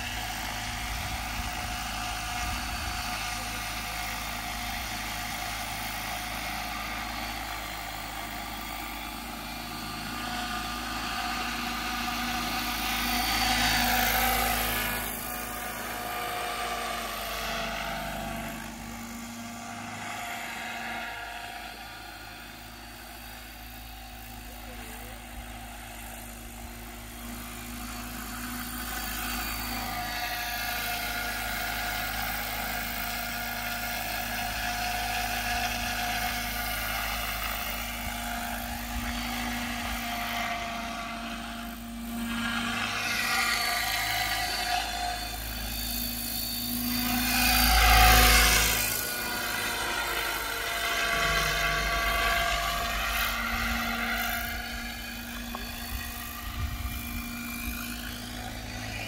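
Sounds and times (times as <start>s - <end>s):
rc helicopter rotors whining: 0.0s - 59.0s.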